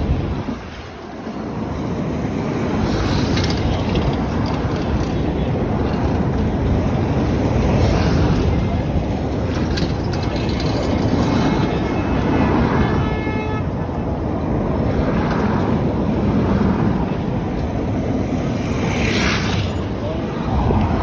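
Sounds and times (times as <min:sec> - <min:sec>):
busy street noise: 0:00.0 - 0:21.0
wind rumbling on microphone: 0:00.0 - 0:21.0.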